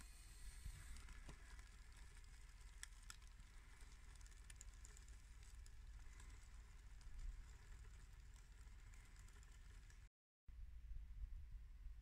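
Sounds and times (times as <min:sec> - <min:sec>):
faint ticks: 0:00.0 - 0:10.1
faint low rumble: 0:00.0 - 0:12.0.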